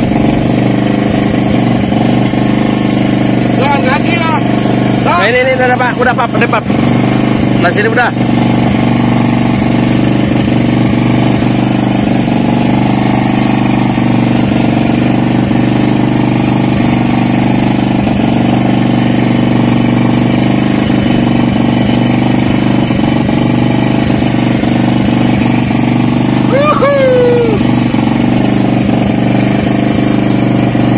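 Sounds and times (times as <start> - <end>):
boat motor humming: 0.0 - 30.9.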